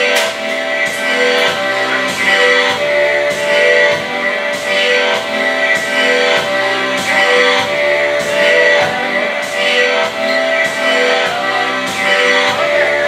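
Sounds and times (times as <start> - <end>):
loud music with steady beat: 0.0 - 13.0.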